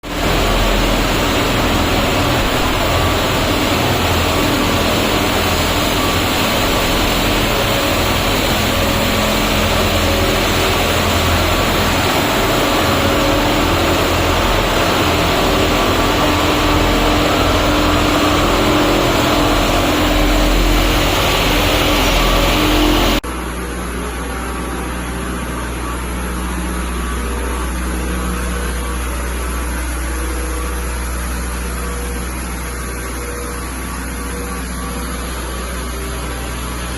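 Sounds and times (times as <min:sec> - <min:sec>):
loader engine running: 0:00.0 - 0:36.9.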